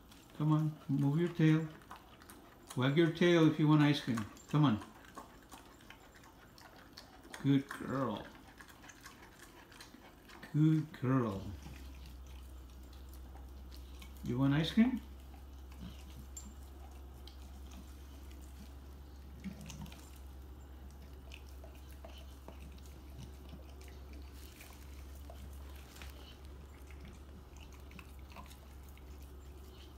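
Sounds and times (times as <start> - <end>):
dog chewing a bone: 0.0 - 29.9.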